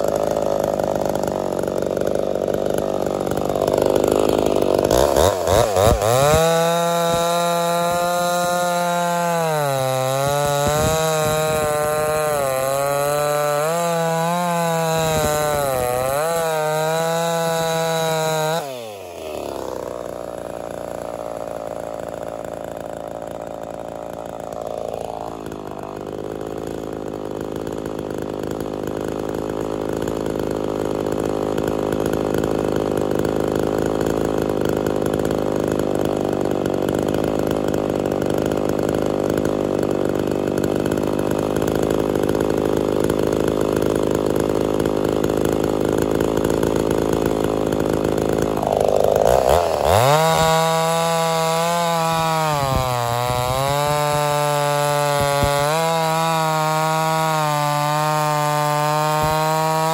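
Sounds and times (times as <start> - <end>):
chainsaw cutting at full throttle: 0.0 - 59.9
chainsaw idling: 0.0 - 59.9.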